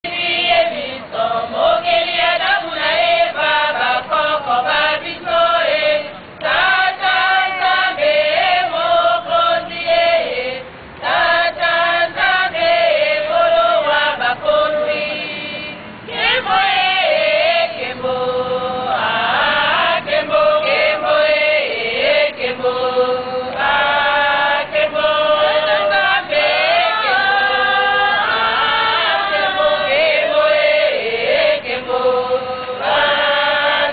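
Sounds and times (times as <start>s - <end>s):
women singing gospel a cappella: 0.0s - 33.9s.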